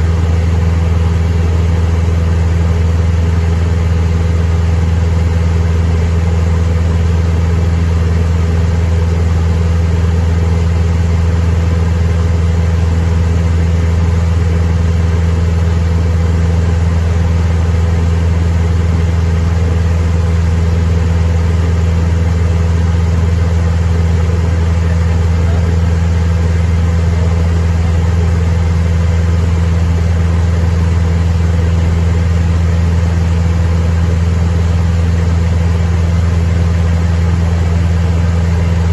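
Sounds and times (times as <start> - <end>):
propeller plane engine drone: 0.0 - 38.9.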